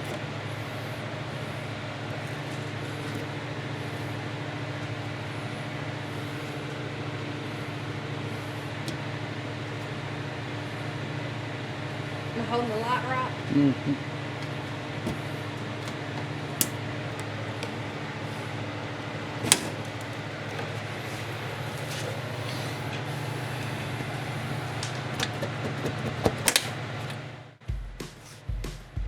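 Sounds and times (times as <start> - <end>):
shop equipment hum: 0.0 - 29.0.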